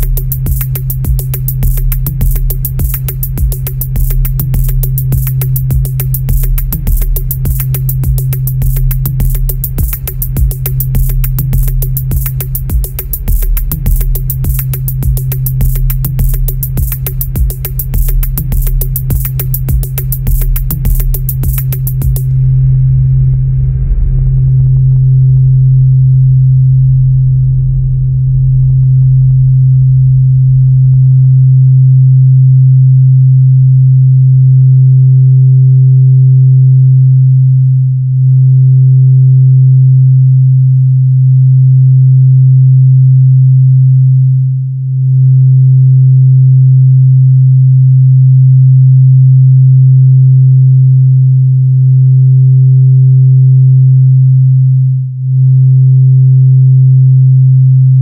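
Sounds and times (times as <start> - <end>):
low electronic drone tone: 0.0 - 58.0.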